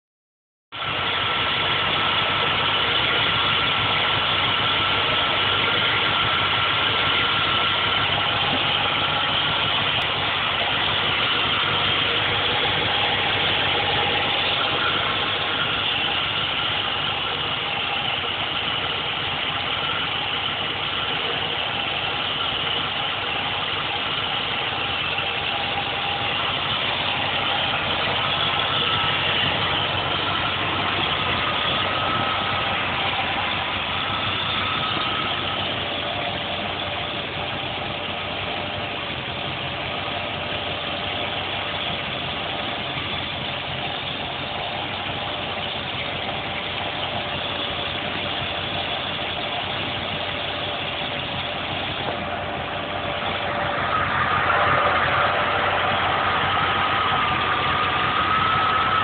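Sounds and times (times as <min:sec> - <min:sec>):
car engine idling: 0:00.7 - 0:59.0.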